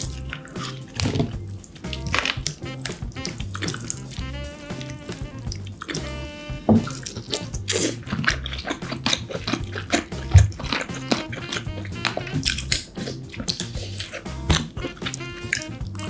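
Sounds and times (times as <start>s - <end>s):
background music with bass line: 0.0s - 16.0s
eating noises: 0.0s - 16.0s.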